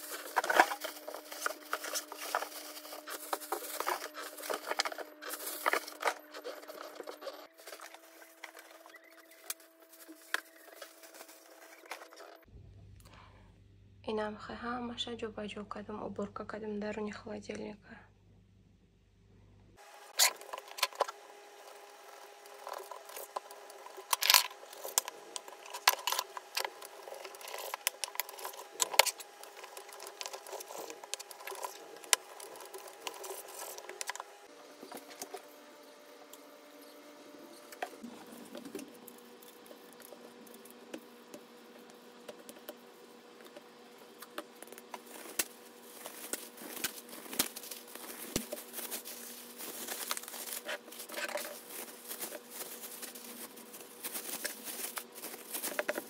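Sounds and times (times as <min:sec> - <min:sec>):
plastic bags crinkling: 0:00.0 - 0:12.5, 0:20.1 - 0:36.0, 0:38.0 - 0:56.0.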